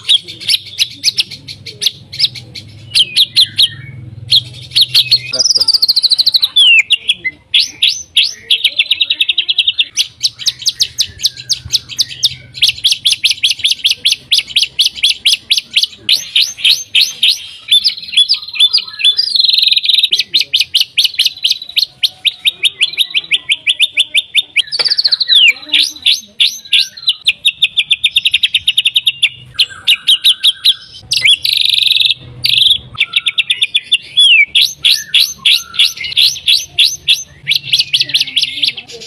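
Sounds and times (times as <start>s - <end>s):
bird singing rapid sharp notes: 0.0s - 39.0s.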